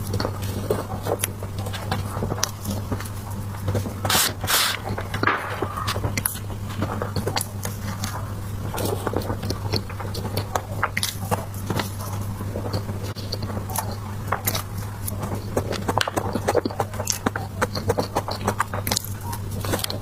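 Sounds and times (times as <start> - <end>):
steady low hum: 0.0 - 20.0
wet chewing and smacking: 0.0 - 20.0.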